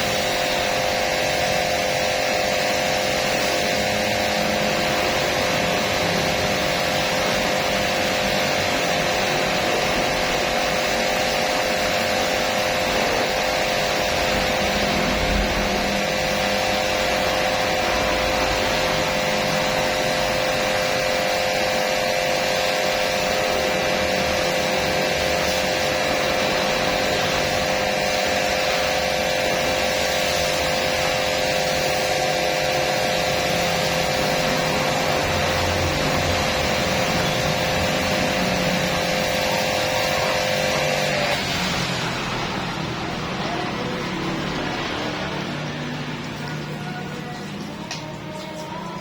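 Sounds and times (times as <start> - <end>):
cleaning machine motor whining: 0.0 - 49.0.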